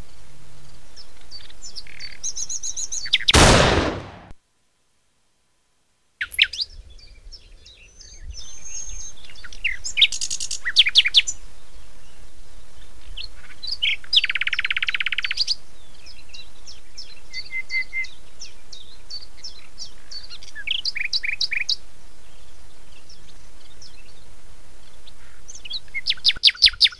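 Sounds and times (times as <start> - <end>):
faint outdoor hiss: 0.0 - 26.9.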